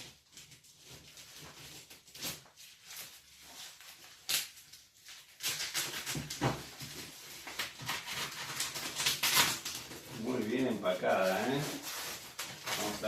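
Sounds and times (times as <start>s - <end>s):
rustling and scraping of packaging: 0.0s - 13.0s.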